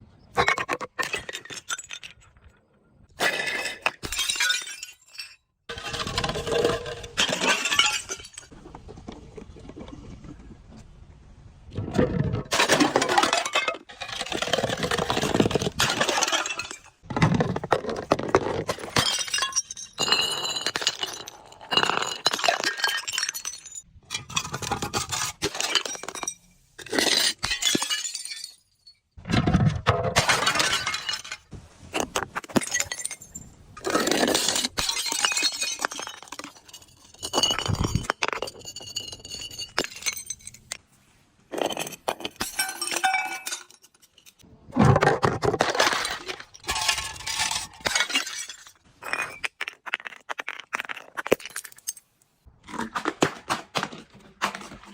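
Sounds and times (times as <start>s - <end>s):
glass bottles crushed and breaking: 0.4s - 8.5s, 11.8s - 40.8s, 41.5s - 54.9s.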